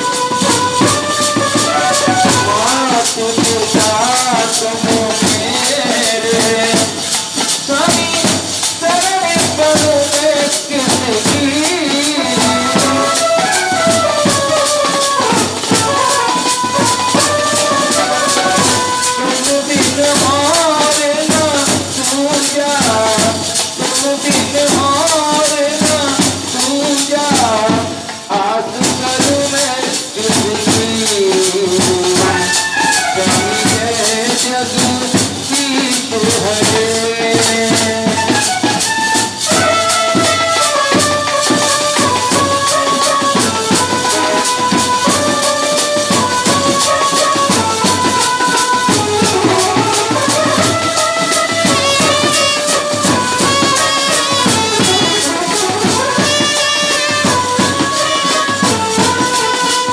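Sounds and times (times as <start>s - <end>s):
fast drumming: 0.0s - 59.9s
rattling percussion: 0.0s - 59.9s
street band melody of held notes: 0.0s - 59.9s.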